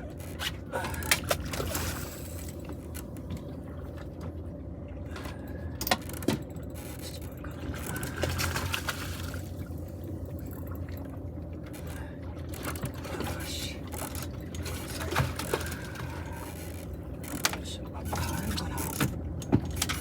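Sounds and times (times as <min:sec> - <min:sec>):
steady low hum: 0:00.0 - 0:20.0
water sloshing against boat: 0:00.0 - 0:20.0.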